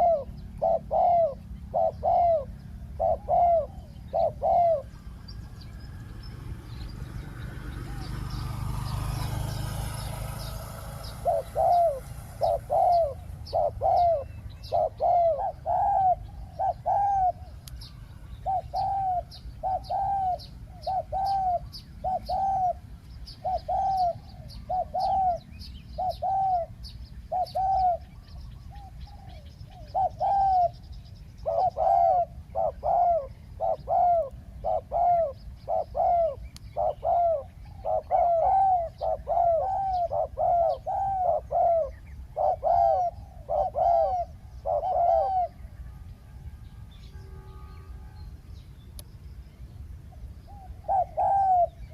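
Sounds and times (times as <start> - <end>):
dove cooing: 0.0 - 45.8, 50.5 - 51.9
small birds chirping faintly: 0.0 - 51.9.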